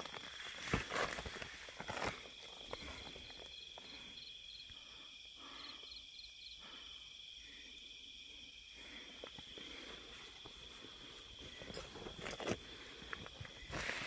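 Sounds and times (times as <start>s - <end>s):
crickets trilling: 0.0s - 14.0s
quick cricket chirps: 0.0s - 14.0s.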